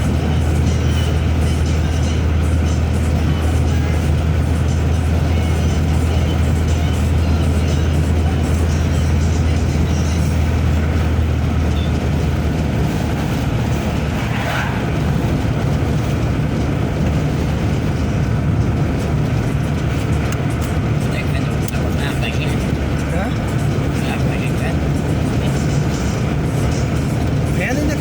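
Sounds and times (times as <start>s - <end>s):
car engine drone and road noise: 0.0s - 28.0s.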